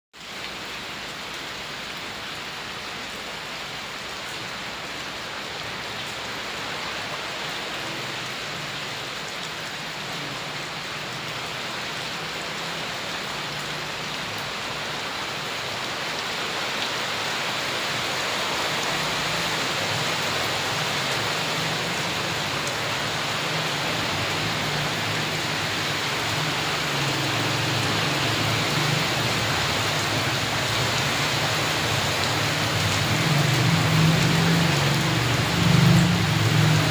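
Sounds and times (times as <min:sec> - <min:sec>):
steady rain falling: 0:00.2 - 0:36.9.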